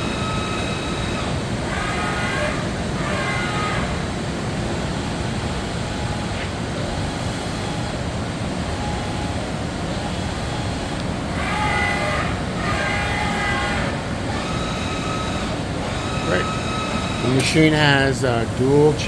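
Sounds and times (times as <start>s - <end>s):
milling machine running: 0.0s - 19.0s.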